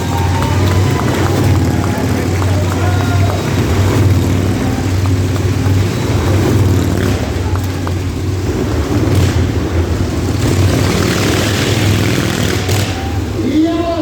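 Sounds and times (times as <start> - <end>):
motorcycle engines droning: 0.0 - 14.0.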